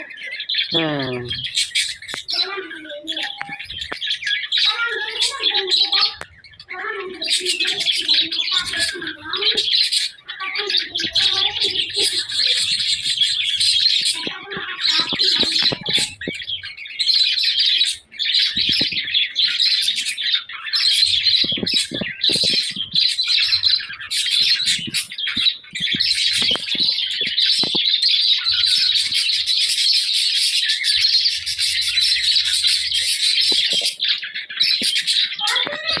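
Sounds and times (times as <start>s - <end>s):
budgerigars chattering: 0.0s - 36.0s.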